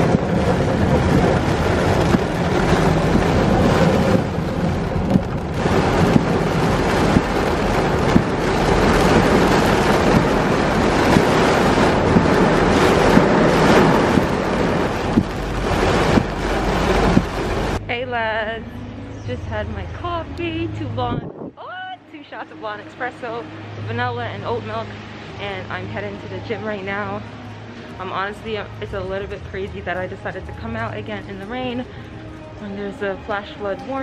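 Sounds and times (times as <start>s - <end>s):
rain: 0.0s - 17.9s, 21.7s - 34.0s.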